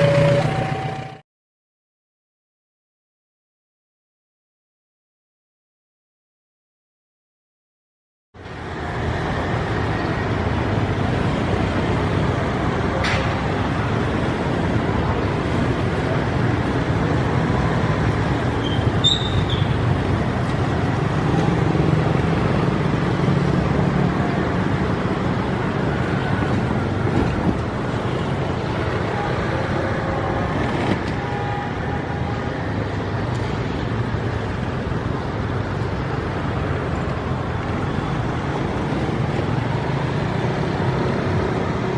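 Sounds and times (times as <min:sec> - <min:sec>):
road traffic: 0:00.0 - 0:01.2, 0:08.4 - 0:41.9.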